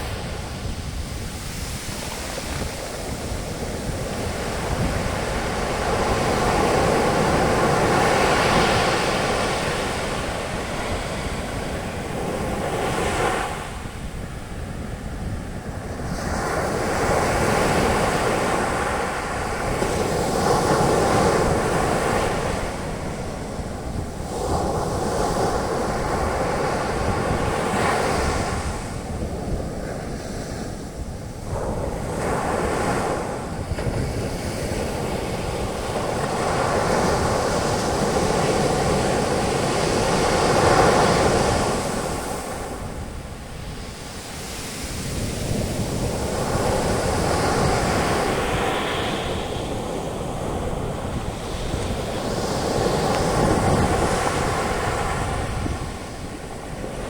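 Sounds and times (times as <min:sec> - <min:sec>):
low rumble of surf: 0:00.0 - 0:57.0
sea waves breaking on beach: 0:00.0 - 0:57.0
wind on microphone: 0:00.0 - 0:57.0.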